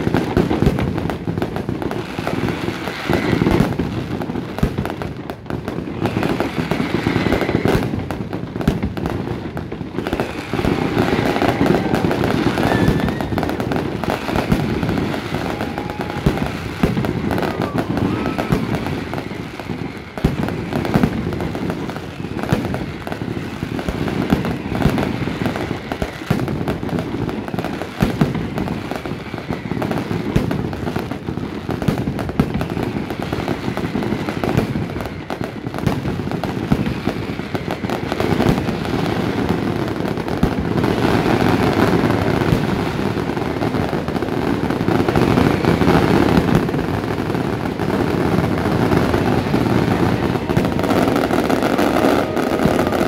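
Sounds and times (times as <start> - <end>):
firecracker bangs: 0.0 - 53.0.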